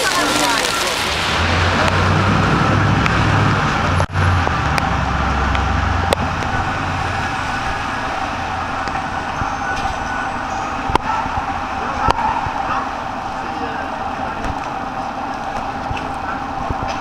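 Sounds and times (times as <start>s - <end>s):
city street traffic: 0.0s - 17.0s
vehicle engine rumble: 0.0s - 17.0s.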